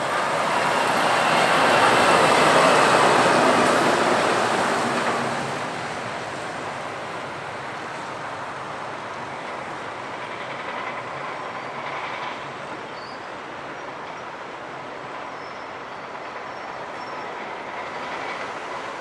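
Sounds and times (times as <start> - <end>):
heavy vehicle running: 0.0 - 19.0.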